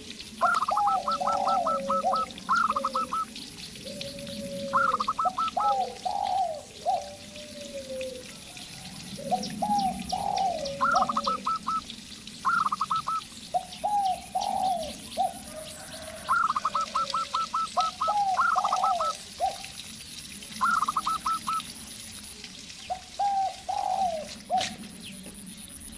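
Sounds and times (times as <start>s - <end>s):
dove rattling call: 0.3s - 19.8s, 20.6s - 21.7s, 22.8s - 25.2s
dove cooing: 0.4s - 19.8s, 20.6s - 21.7s, 22.8s - 25.1s.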